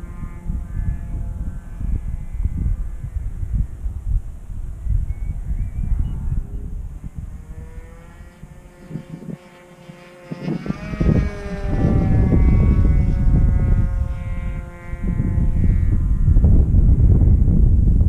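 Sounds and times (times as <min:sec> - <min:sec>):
model airplane engine buzzing: 0:00.0 - 0:18.0
wind buffeting microphone: 0:00.0 - 0:18.0.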